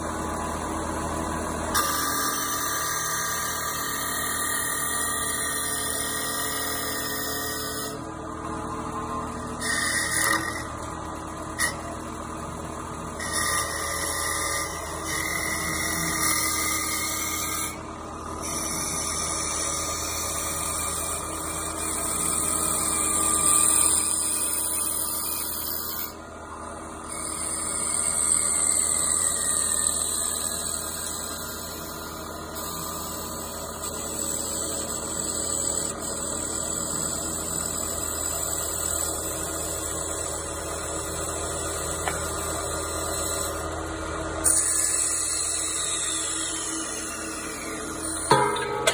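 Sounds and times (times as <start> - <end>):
wood lathe whine: 0.0 - 48.9.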